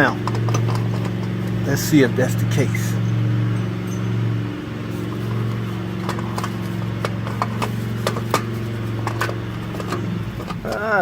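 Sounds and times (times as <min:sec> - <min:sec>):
metallic clinks and knocks: 0:00.0 - 0:10.9
low mechanical hum: 0:00.0 - 0:11.0.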